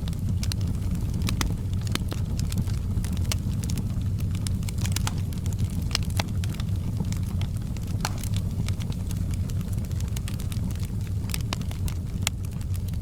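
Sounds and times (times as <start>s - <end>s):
low rumble: 0.0s - 12.6s
fire crackling and popping: 0.0s - 13.0s.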